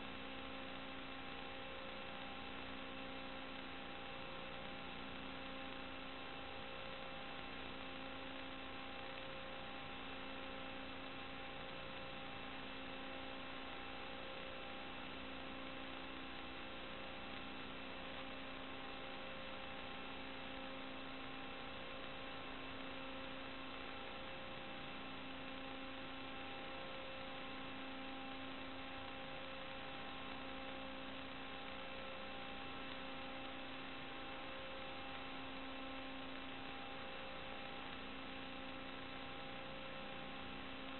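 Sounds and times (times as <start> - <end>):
electrical hum and hiss: 0.0 - 40.9.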